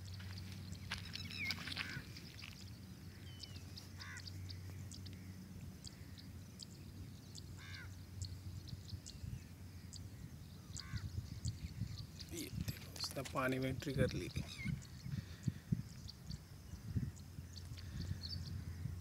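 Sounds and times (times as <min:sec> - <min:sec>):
bird calling: 0:00.0 - 0:19.0.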